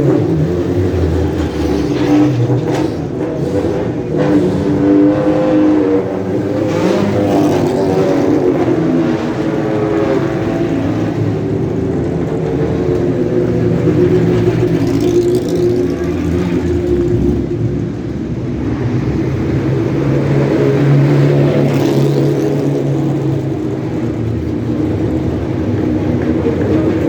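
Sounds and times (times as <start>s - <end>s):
sports car engines revving: 0.0s - 27.0s.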